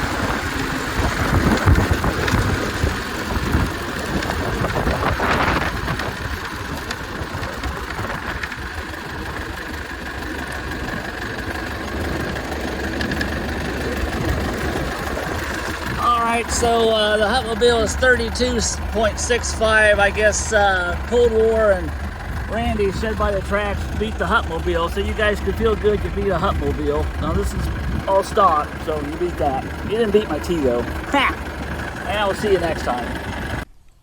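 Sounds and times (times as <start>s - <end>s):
old car engine running: 0.0s - 33.7s
road or wind noise: 0.0s - 33.8s.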